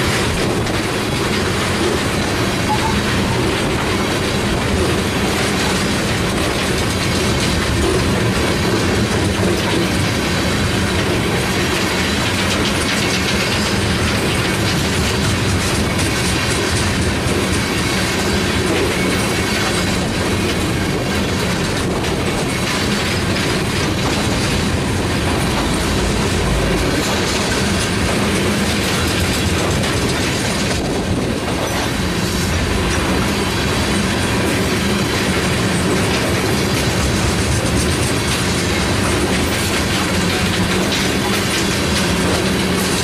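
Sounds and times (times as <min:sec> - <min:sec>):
train wheels on rails: 0:00.0 - 0:43.0
wheels clicking over rail joints: 0:00.0 - 0:43.0.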